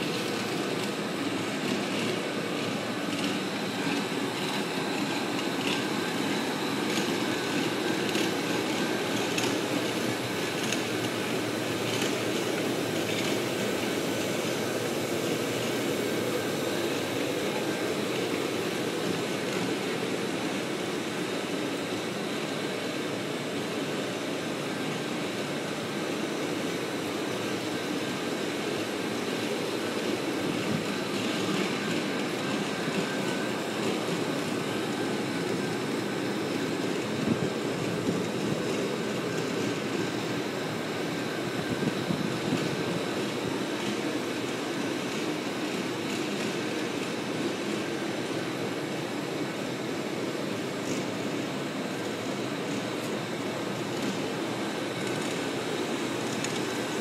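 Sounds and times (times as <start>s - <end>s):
floor grinder grinding concrete: 0.0s - 57.0s.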